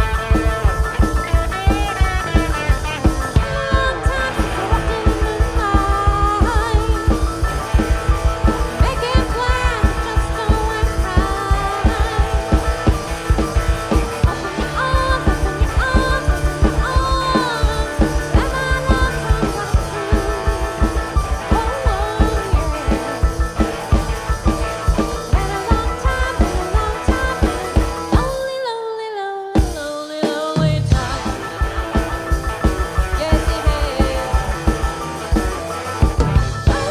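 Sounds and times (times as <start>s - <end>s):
bass guitar: 0.0s - 28.4s, 30.6s - 36.9s
electric guitar lead bending pitch: 0.0s - 28.4s, 30.9s - 36.9s
drum kit beat: 0.0s - 28.5s, 29.6s - 36.9s.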